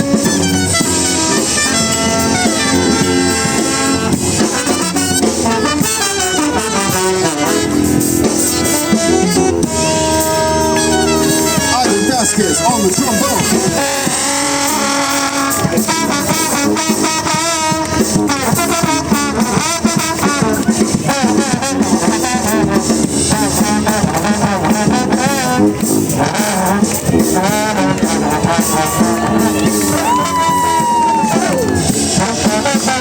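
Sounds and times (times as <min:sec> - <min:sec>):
brass band playing: 0:00.0 - 0:33.0
trombone solo: 0:00.0 - 0:33.0.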